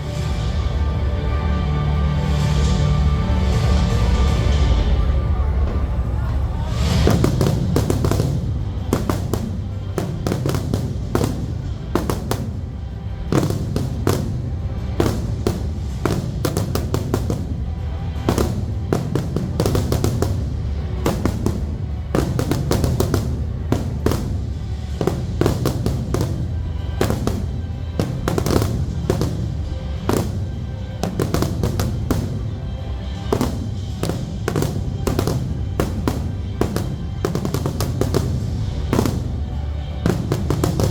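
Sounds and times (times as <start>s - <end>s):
fireworks bursting: 0.0s - 40.9s
music soundtrack: 0.0s - 40.9s.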